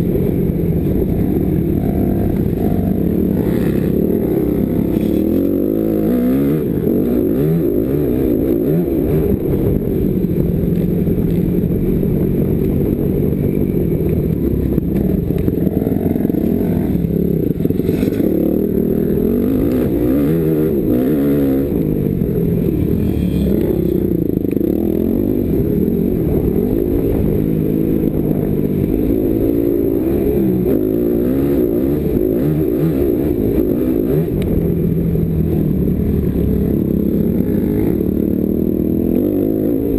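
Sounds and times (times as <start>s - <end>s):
dirt bike engine revving: 0.0s - 11.8s, 13.5s - 39.9s.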